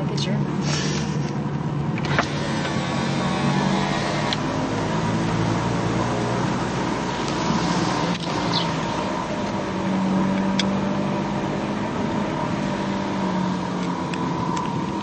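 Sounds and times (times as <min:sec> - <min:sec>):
car cabin engine and road noise: 0:00.0 - 0:15.0.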